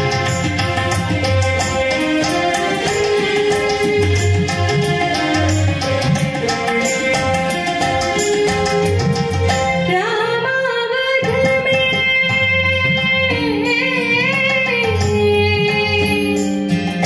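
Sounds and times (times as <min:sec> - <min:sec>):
tabla playing: 0:00.0 - 0:17.0
woman singing into a microphone: 0:00.0 - 0:17.0.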